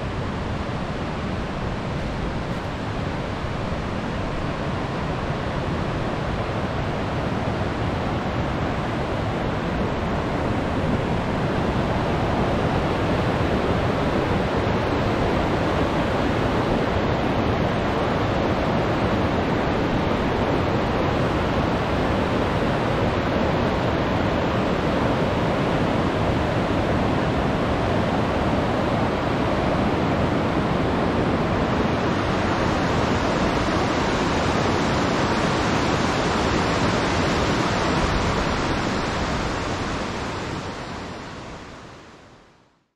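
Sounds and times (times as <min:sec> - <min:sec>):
river water rushing: 0:00.0 - 0:42.3.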